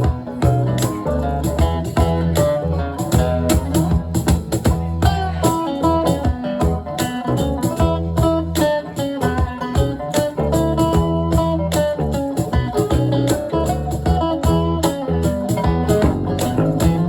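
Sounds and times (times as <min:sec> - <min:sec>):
drum beat: 0:00.0 - 0:17.0
guitar picking a busy line: 0:00.0 - 0:17.0
steady bass: 0:00.0 - 0:17.0.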